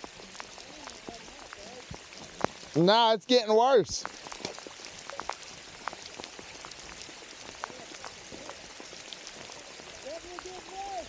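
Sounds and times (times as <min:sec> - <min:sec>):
raindrops ticking nearby: 0:00.0 - 0:11.0
steady rain hiss: 0:00.0 - 0:11.0.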